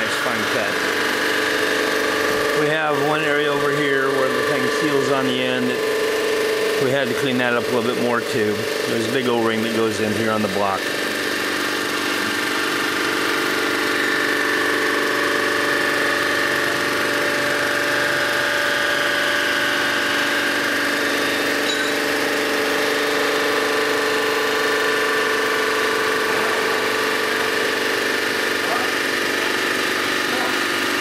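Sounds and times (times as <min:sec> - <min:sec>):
resurfacing machine humming: 0:00.0 - 0:31.0.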